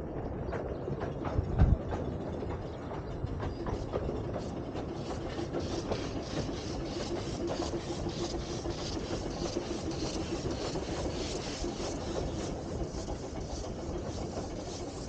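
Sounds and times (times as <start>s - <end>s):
miniature steam train running: 0.0s - 15.0s.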